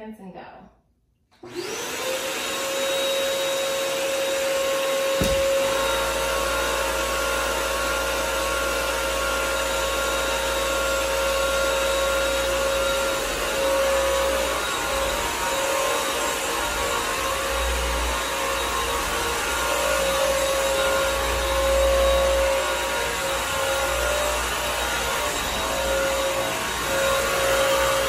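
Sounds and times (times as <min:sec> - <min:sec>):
vacuum motor whine: 0:01.4 - 0:28.0.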